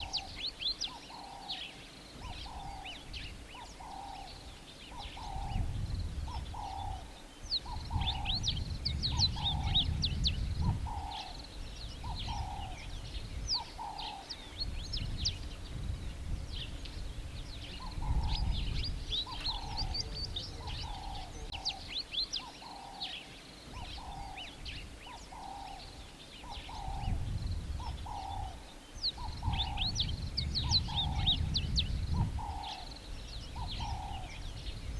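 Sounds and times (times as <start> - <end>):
wind rumbling on microphone: 0.0 - 1.4, 2.0 - 23.0, 23.6 - 34.9
birds chirping: 0.0 - 34.9.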